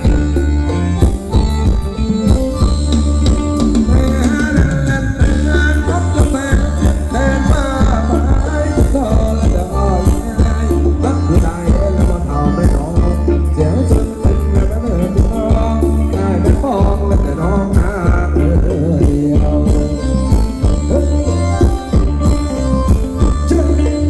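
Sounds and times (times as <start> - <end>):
live band bass and drum beat: 0.0 - 24.0
person singing: 0.0 - 24.0.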